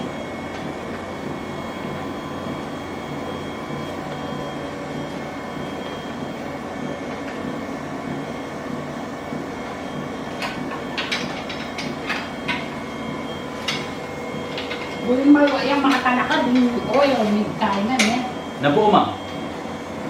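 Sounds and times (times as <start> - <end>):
treadmill motor and belt running: 0.0 - 20.0.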